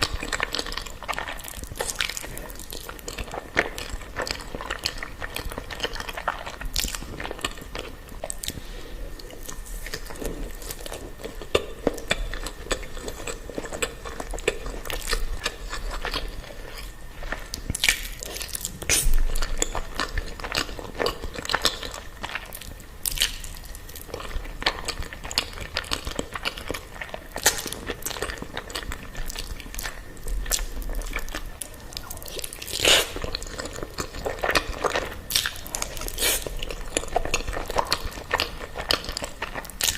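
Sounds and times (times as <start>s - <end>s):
wet chewing and slurping: 0.0s - 39.9s.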